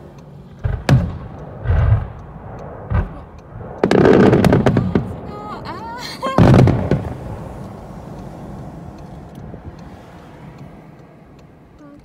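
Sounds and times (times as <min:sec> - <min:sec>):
fireworks boom and rumble: 0:00.0 - 0:10.3.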